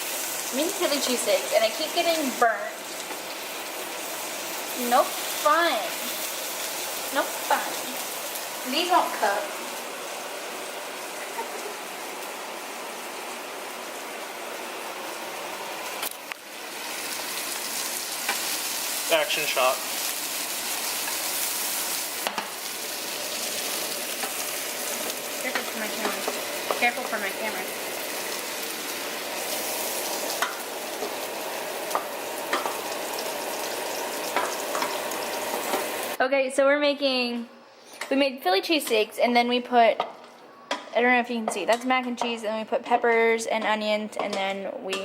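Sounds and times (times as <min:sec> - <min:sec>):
steak sizzling in a frying pan: 0:00.0 - 0:36.2.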